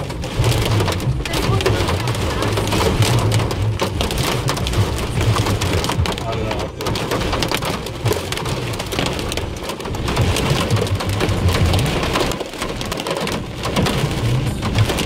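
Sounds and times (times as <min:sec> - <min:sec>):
rain and hail on car roof: 0:00.0 - 0:15.0.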